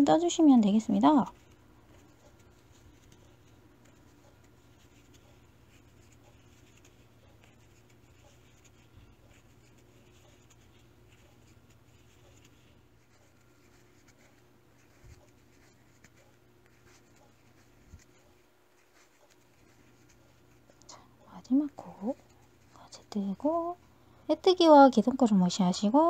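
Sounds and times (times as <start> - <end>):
crochet hook rustling yarn: 0.0 - 23.8
low steady hum: 0.0 - 26.0.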